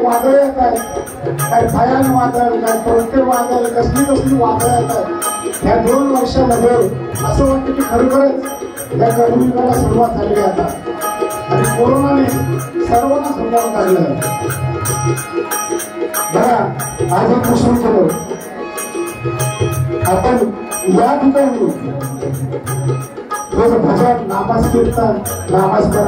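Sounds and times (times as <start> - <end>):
hand drum beat: 0.0 - 26.0.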